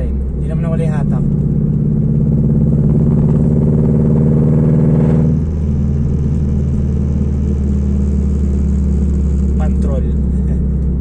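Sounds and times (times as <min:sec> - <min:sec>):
car engine pulling: 0:00.0 - 0:11.0.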